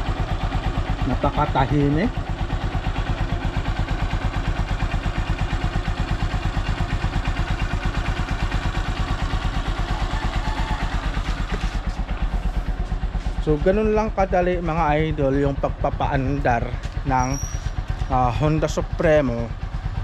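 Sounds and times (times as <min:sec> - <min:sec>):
motorcycle engine idling quietly: 0:00.0 - 0:20.0.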